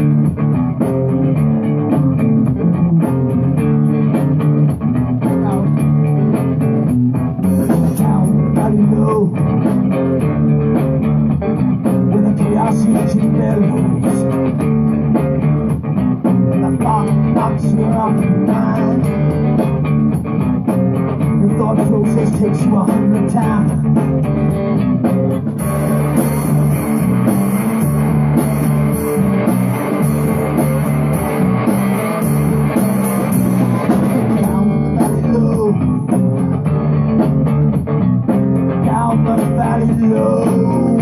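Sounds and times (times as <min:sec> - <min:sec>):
bass guitar: 0:00.0 - 0:41.0
electric guitar: 0:00.0 - 0:41.0.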